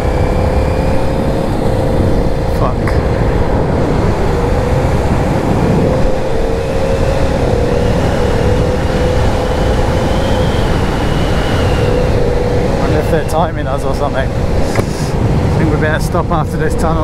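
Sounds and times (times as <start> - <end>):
motorcycle engine cruising in tunnel: 0.0 - 17.0.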